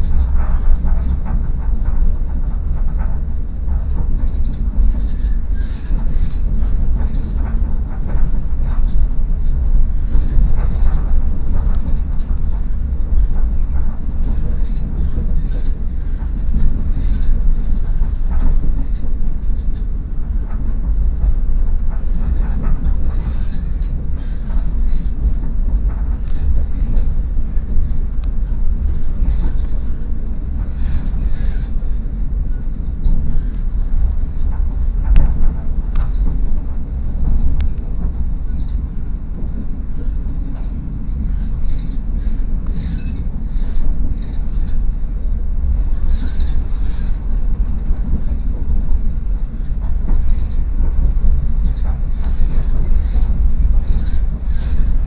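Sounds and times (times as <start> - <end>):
train rumbling from inside carriage: 0.0 - 55.0.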